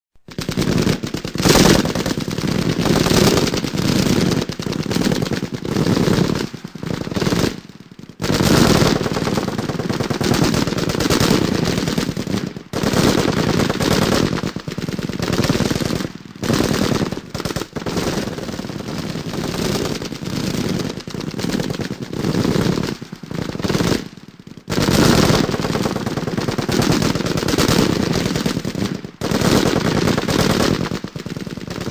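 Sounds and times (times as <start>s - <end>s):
machine-gun fire in bursts: 0.2s - 31.9s.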